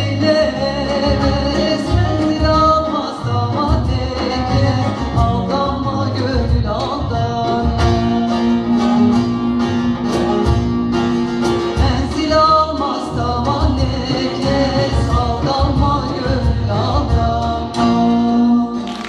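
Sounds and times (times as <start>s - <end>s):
woman singing folk song: 0.0s - 9.5s, 11.6s - 19.0s
plucked lutes: 0.0s - 19.0s.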